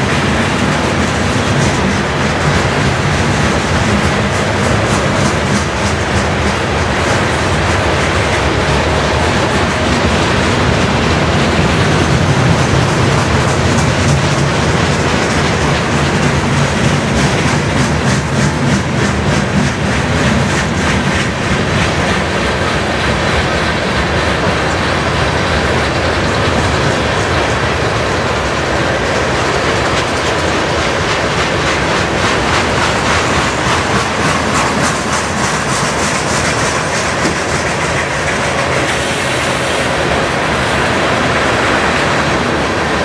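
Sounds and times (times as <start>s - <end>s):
train rumbling past: 0.0s - 43.0s
wheels clicking over rail joints: 0.0s - 43.0s.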